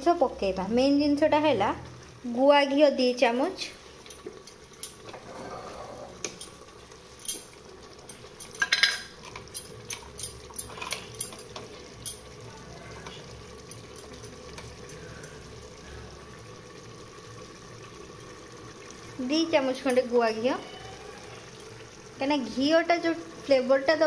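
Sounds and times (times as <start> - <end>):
pot frying: 0.0 - 24.0.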